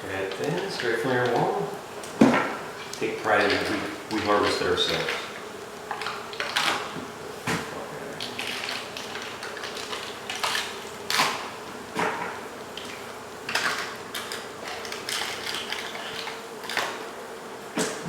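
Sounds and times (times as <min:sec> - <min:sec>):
bee colony humming: 0:00.0 - 0:18.0.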